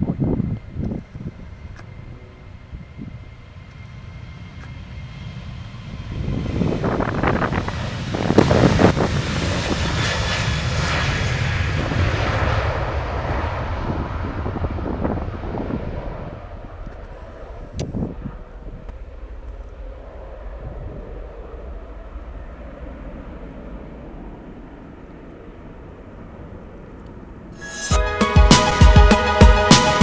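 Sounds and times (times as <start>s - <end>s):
jet airliner passing: 0.0s - 30.0s.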